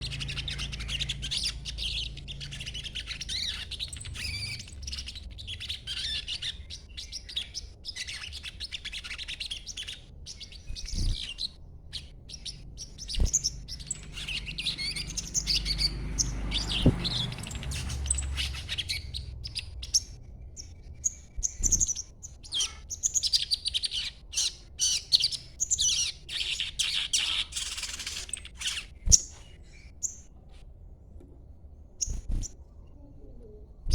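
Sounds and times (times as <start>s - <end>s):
songbird twittering: 0.0s - 30.3s.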